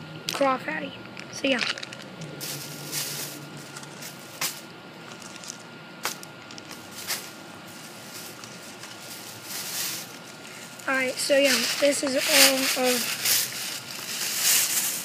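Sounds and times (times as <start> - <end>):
faint high hum: 0.0 - 15.0
packaging rustling: 1.6 - 4.4, 5.1 - 15.0.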